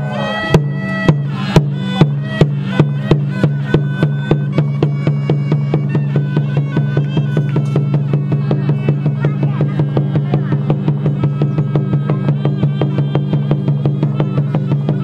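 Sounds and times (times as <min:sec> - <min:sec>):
percussion ensemble music: 0:00.0 - 0:15.0.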